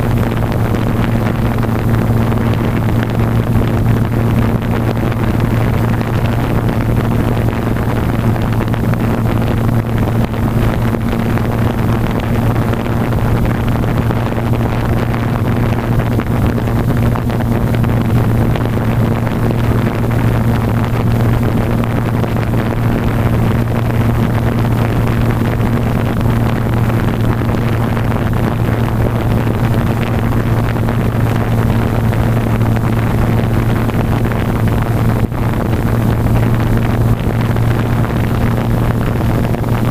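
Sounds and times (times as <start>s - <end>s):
propeller wash over microphone: 0.0s - 39.9s.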